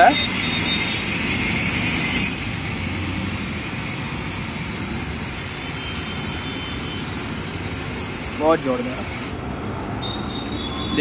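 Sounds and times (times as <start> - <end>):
pressure washer water jet hissing: 0.0 - 9.6.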